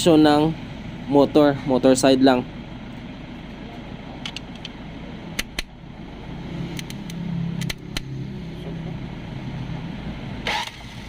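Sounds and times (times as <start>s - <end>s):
starter motor humming: 0.0s - 11.0s.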